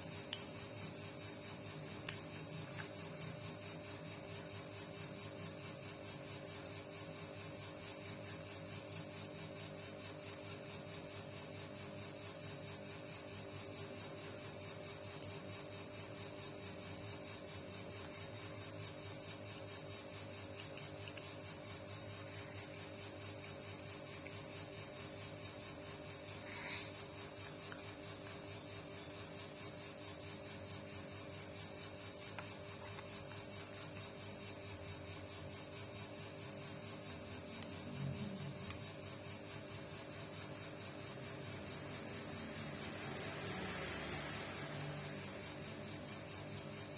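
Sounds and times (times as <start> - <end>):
small motor humming: 0.0 - 46.9.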